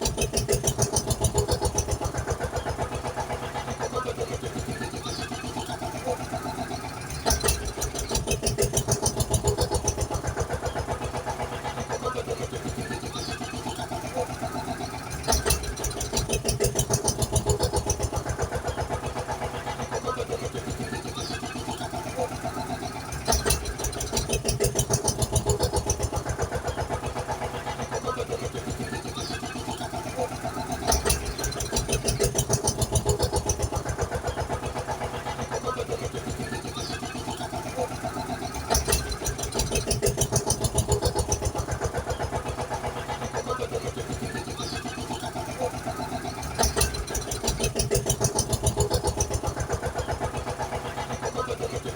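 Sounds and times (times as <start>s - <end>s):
cartoon engine chugging: 0.0s - 51.9s.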